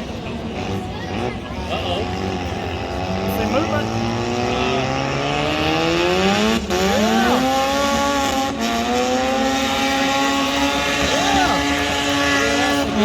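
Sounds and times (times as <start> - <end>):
car engine revving hard: 0.4 - 13.0.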